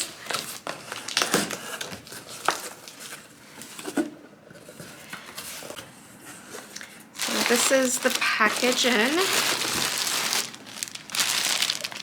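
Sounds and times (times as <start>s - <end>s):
packaging rustling and crinkling: 0.0s - 5.8s, 6.5s - 12.0s.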